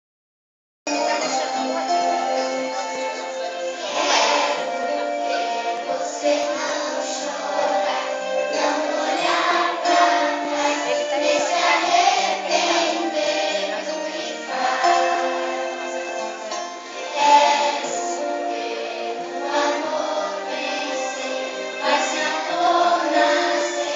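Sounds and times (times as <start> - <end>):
children singing: 0.9 - 23.9
musical accompaniment: 0.9 - 23.9.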